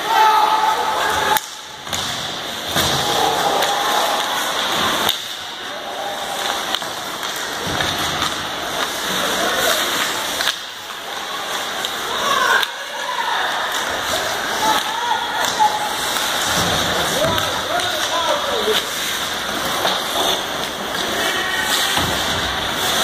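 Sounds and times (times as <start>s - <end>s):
skates scraping ice: 0.0s - 23.0s
spectator chatter: 0.0s - 23.0s
sticks and puck clacking: 0.1s - 23.0s.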